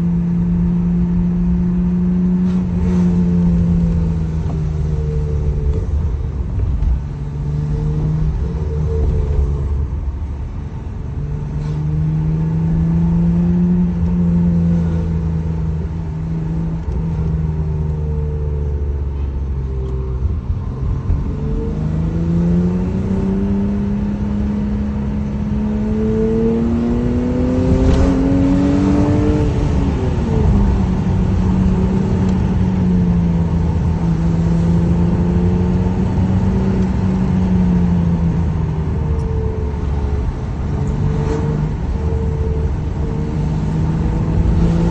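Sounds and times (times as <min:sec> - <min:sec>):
car engine cruising and revving: 0:00.0 - 0:44.9.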